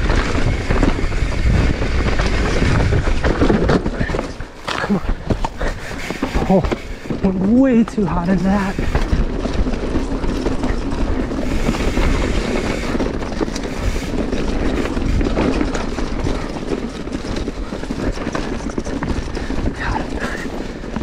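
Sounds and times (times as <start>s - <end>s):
bike clattering: 0.0s - 21.0s
bike tyres rolling over dirt: 0.0s - 21.0s.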